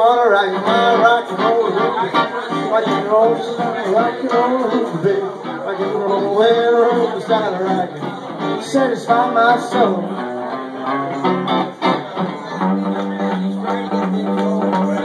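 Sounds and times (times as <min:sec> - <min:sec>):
electric guitar rockabilly song: 0:00.0 - 0:15.0.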